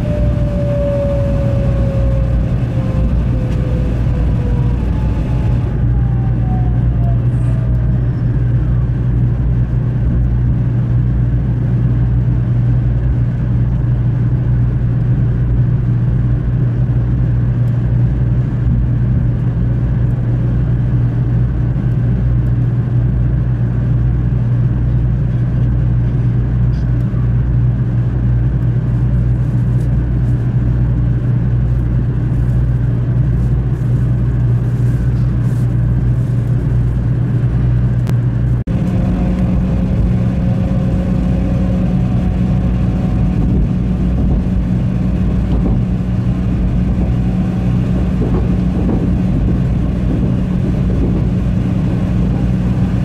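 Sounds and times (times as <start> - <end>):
train cabin hum and rumble: 0.0 - 53.0.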